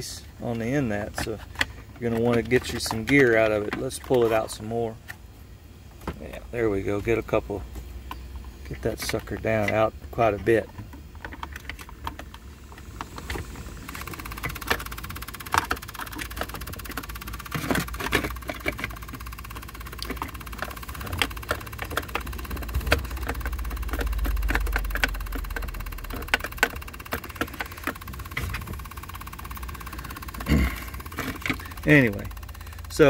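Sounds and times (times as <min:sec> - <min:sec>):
gear shift cable rattling: 0:00.0 - 0:05.2, 0:08.2 - 0:33.0.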